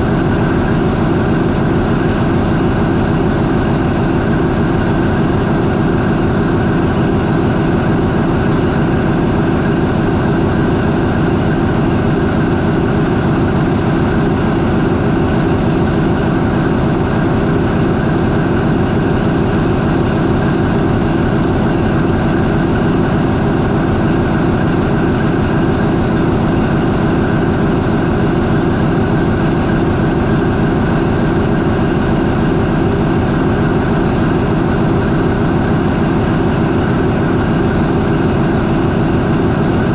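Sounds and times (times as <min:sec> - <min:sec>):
ship diesel engine idling: 0:00.0 - 0:39.9.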